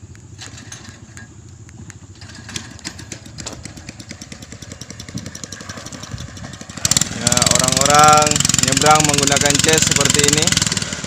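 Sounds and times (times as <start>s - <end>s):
small boat engine puttering: 0.0s - 11.0s.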